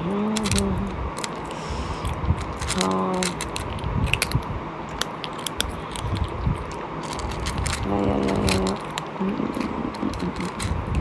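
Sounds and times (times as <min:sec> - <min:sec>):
wet chewing: 0:01.2 - 0:11.0.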